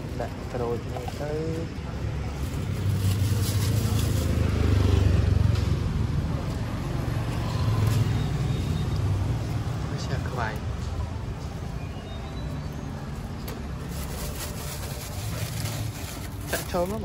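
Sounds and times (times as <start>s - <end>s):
motor vehicle engine rumble: 0.0s - 17.0s.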